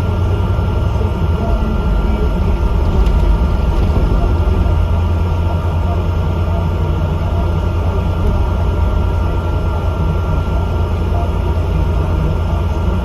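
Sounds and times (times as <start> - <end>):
bus engine rumbling: 0.0 - 13.0
faint steady whine: 0.0 - 13.0.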